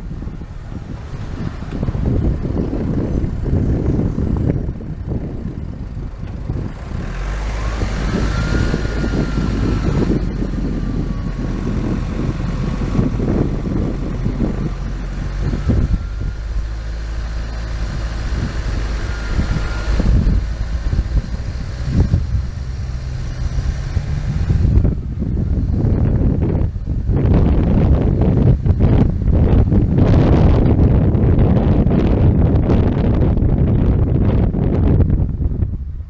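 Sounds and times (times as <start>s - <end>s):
vehicle engine droning: 0.0s - 36.0s.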